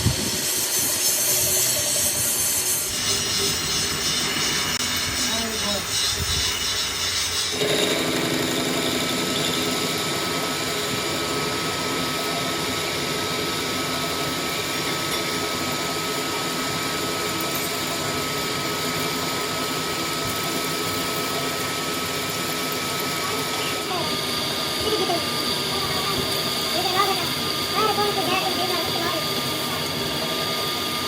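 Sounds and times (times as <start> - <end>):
power tool whining: 0.0 - 31.0.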